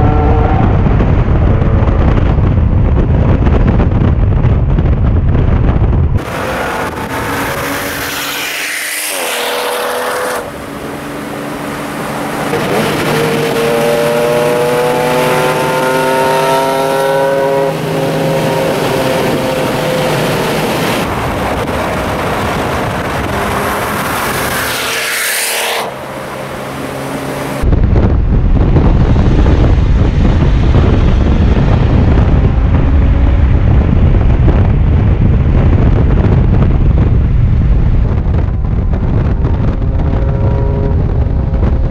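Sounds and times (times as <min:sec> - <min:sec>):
car engine revving: 0:00.0 - 0:03.4, 0:06.1 - 0:36.7
wind and road noise in car: 0:00.0 - 0:41.9.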